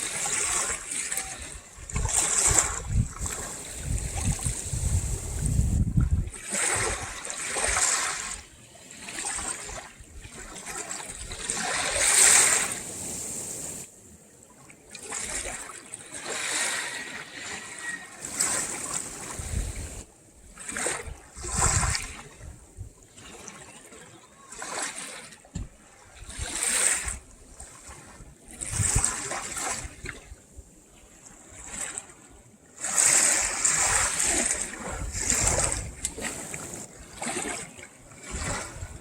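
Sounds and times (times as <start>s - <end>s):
small waves lapping at shore: 0.0s - 39.0s.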